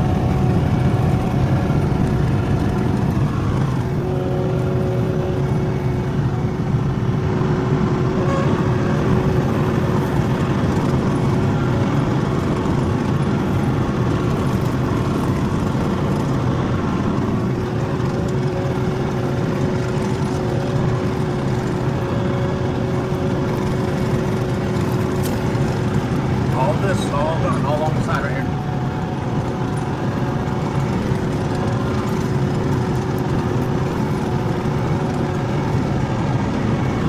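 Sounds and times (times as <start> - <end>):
loader engine running: 0.0 - 37.0.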